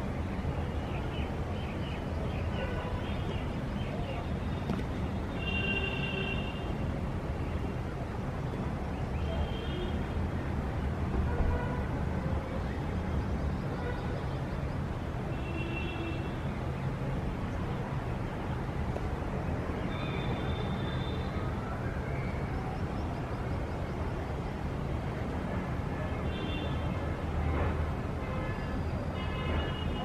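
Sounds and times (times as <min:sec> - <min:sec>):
low hum of traffic: 0:00.0 - 0:30.0.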